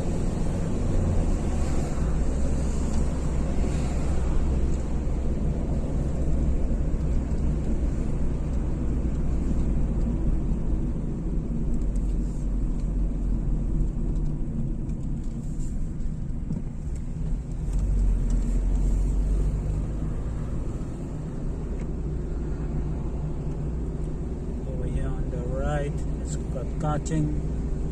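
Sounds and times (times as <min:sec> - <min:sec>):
car cabin road noise: 0:00.0 - 0:27.9.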